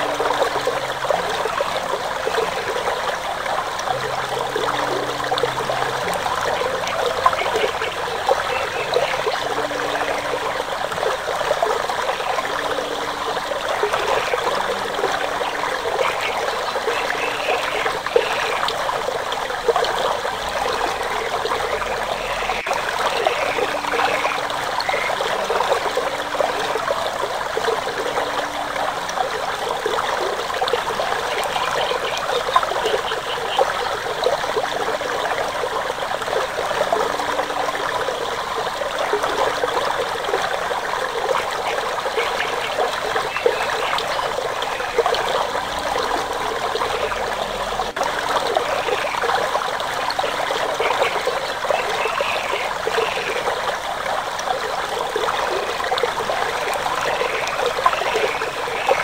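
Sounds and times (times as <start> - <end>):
stream water trickling over rocks: 0.0 - 59.0.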